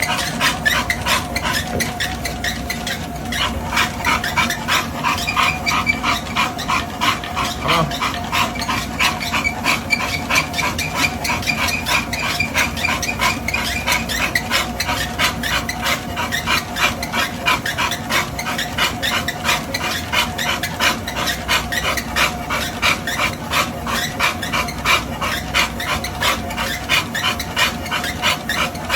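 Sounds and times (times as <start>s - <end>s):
dog panting: 0.0s - 28.9s.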